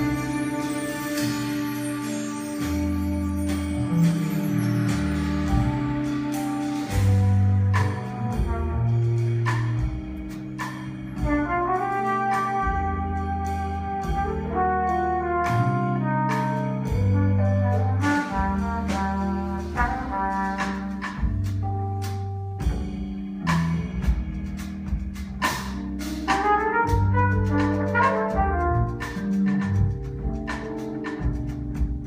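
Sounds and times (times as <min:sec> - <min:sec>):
held brass chords: 0:00.0 - 0:10.3, 0:11.0 - 0:22.1, 0:26.2 - 0:32.0
bass notes: 0:00.0 - 0:32.0.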